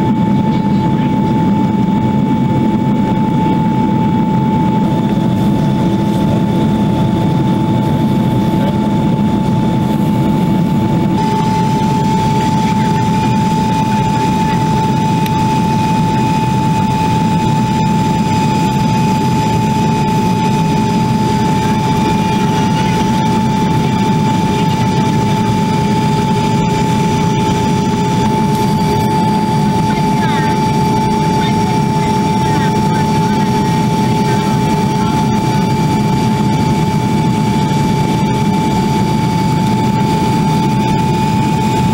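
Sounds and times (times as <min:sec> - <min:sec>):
jet cabin rushing hum: 0:00.0 - 0:41.9
higher whining tones: 0:01.6 - 0:41.9.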